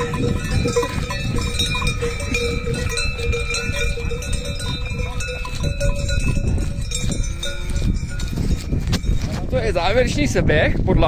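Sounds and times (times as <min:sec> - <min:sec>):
cowbells clanging: 0:00.0 - 0:10.2.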